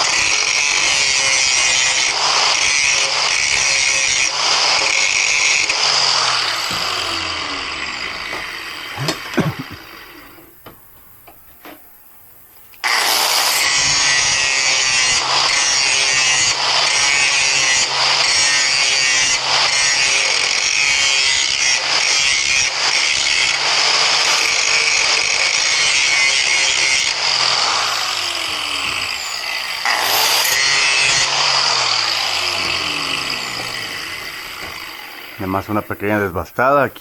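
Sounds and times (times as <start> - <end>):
power grinder grinding steel: 0.0 - 10.5, 12.8 - 36.3.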